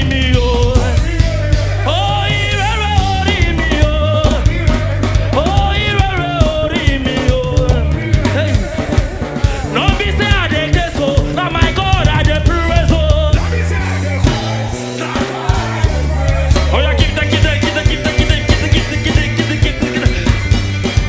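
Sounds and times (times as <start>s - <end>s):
live gospel band: 0.0s - 21.0s
man singing lead: 0.0s - 21.0s.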